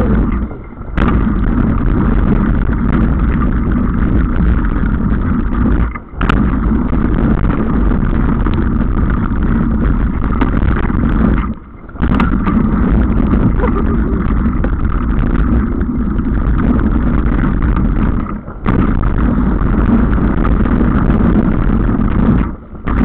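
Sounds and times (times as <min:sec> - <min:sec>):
bike tyres rattling on gravel: 0:00.0 - 0:23.0
wind on microphone: 0:00.0 - 0:23.0.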